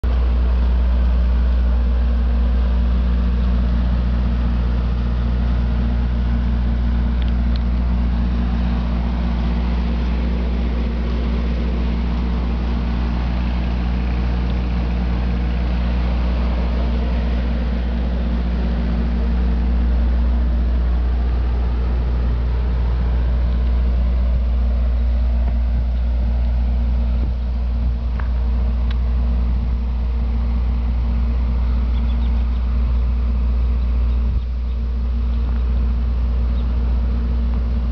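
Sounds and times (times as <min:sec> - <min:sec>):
generator engine humming: 0:00.0 - 0:37.9.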